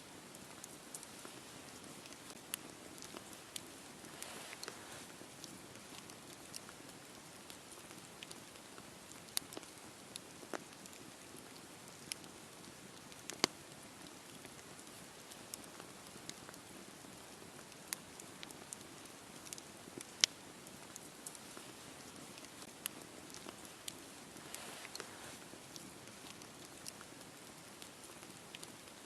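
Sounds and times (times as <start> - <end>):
campfire crackling and hissing: 0.0 - 29.0.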